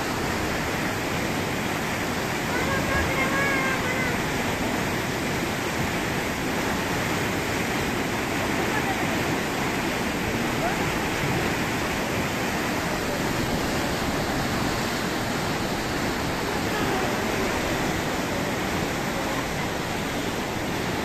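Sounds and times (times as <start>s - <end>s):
rushing floodwater: 0.0s - 21.0s.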